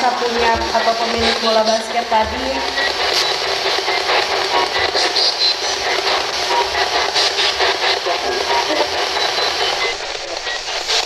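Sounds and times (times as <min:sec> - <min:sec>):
radio static hiss: 0:00.0 - 0:11.0
snatches of broadcast music: 0:00.0 - 0:11.0
snatches of broadcast voices: 0:00.0 - 0:11.0.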